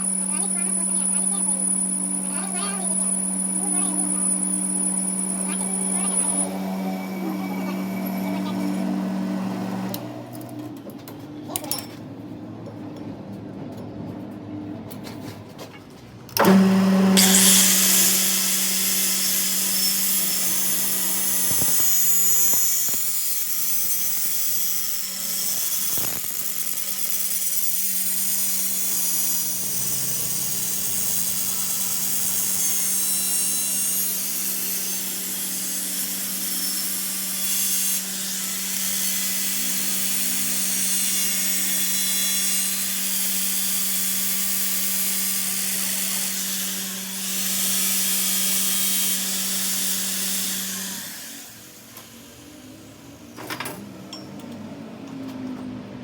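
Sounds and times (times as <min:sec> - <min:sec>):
power tool running: 0:00.0 - 0:10.8, 0:16.4 - 0:54.6.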